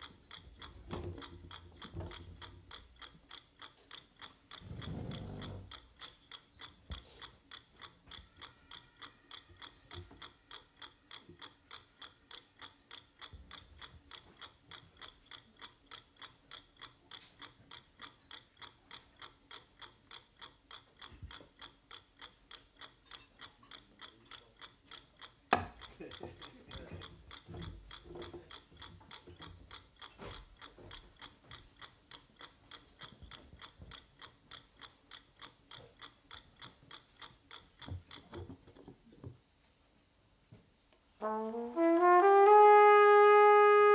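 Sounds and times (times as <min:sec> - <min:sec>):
chess clock ticking: 0:00.0 - 0:41.4.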